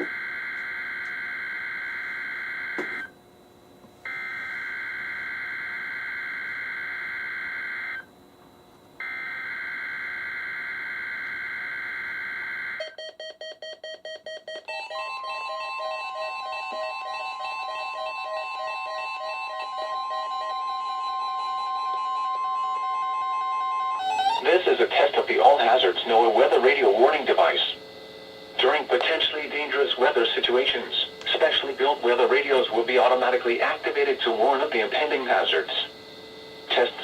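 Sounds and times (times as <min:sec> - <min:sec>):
radio alarm beeping: 0:00.0 - 0:03.1, 0:04.1 - 0:08.1, 0:09.0 - 0:37.0.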